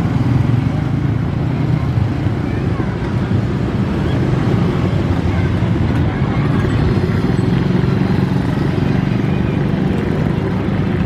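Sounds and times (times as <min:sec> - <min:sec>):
low vehicle engine rumble: 0:00.0 - 0:11.0.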